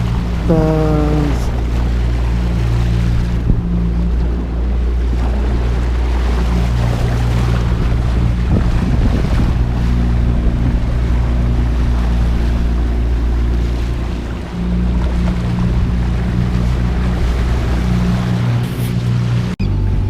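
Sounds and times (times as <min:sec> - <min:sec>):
motorboat engine running: 0:00.0 - 0:20.0
water rushing past hull: 0:00.0 - 0:20.0
wind buffeting microphone: 0:01.3 - 0:20.0.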